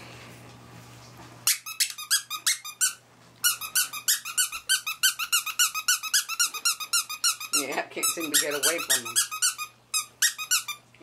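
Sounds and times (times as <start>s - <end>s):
squeaky dog toy squeaking: 1.4s - 10.8s.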